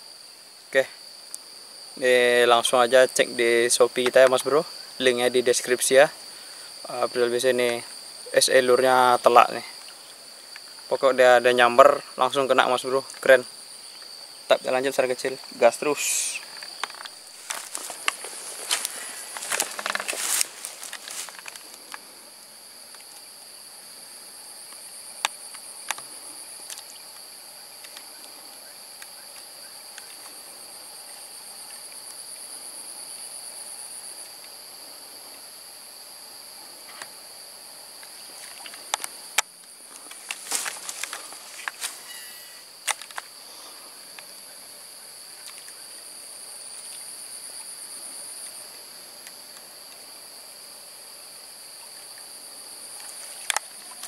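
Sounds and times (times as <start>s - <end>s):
fast pulsing insect trill: 0.0s - 54.0s
insects chirping: 0.0s - 54.0s.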